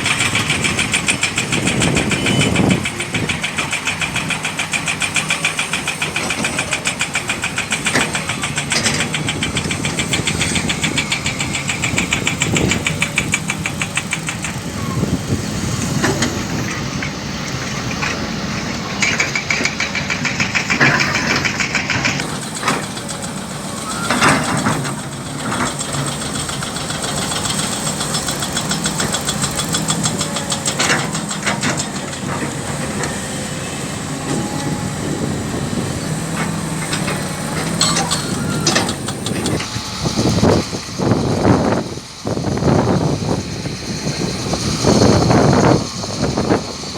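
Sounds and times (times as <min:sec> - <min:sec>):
excavator diesel engines clattering: 0:00.0 - 0:46.9.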